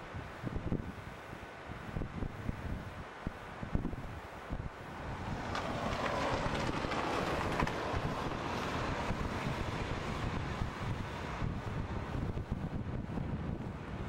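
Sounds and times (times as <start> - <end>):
car tyre and wind noise: 0.0 - 14.0
wind buffeting microphone: 0.0 - 14.0.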